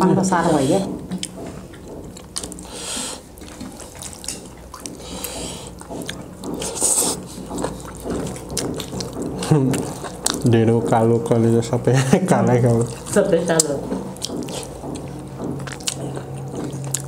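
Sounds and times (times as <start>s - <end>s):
wet chewing and lip-smacking: 0.9s - 11.1s, 12.7s - 17.0s.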